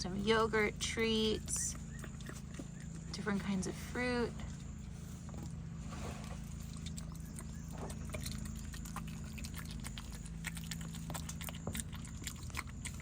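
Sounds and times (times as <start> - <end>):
animals chewing food: 0.0 - 13.0
steady low hum: 0.0 - 13.0.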